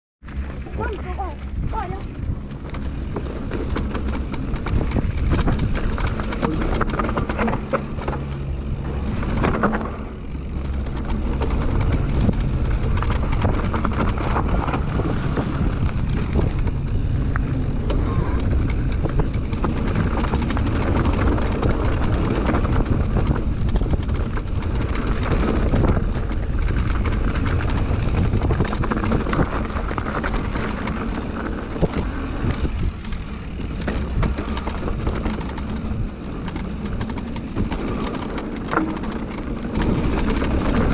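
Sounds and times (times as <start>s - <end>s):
bike rattling clicks and knocks: 0.2s - 40.9s
wind and tyre roar: 0.2s - 40.9s.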